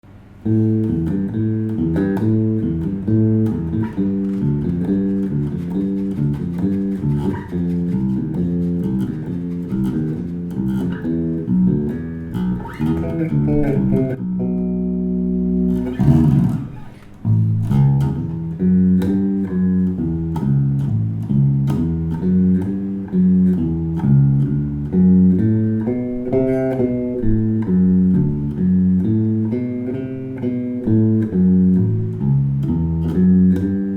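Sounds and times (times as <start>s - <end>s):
electric bass guitar plucked notes: 0.1s - 33.9s.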